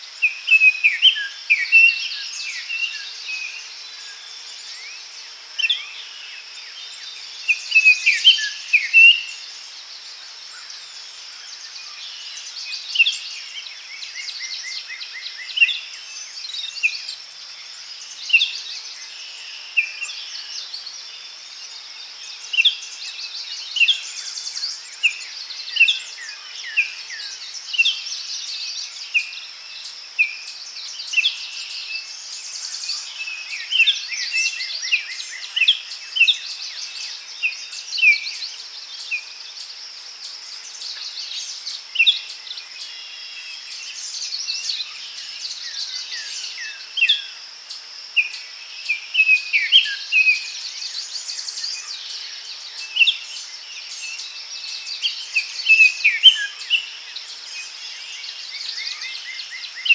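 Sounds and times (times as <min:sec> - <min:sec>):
high insect buzz: 0:00.0 - 0:59.9
songbirds chirping: 0:00.0 - 0:59.9.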